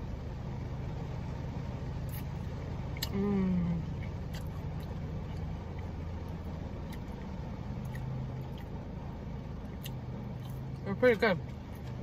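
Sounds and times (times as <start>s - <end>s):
car idling with air conditioning: 0.0s - 12.0s.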